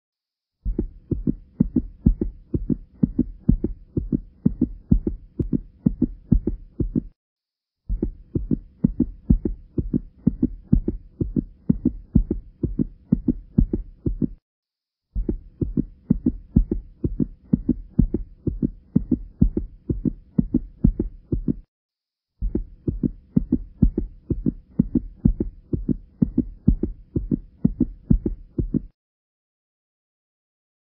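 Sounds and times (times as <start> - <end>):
muffled throbbing beat: 0.7 - 7.2, 7.9 - 14.4, 15.2 - 21.7, 22.4 - 28.9.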